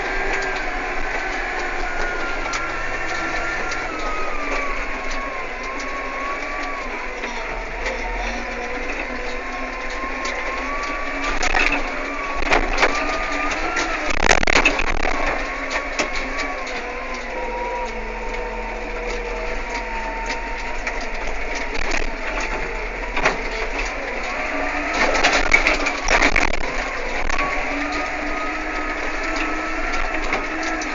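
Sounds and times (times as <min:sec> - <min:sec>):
tractor engine drone: 0:00.0 - 0:30.9.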